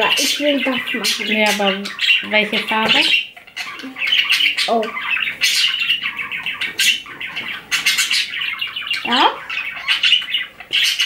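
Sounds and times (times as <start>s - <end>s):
budgerigars chattering: 0.0s - 11.0s.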